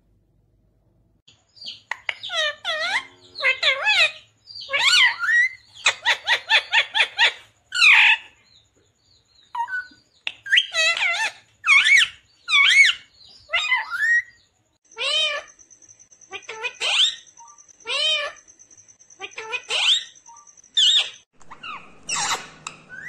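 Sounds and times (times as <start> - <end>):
parakeet chirping and squawking: 1.6 - 8.6, 9.4 - 15.6, 16.2 - 18.5, 19.2 - 23.0.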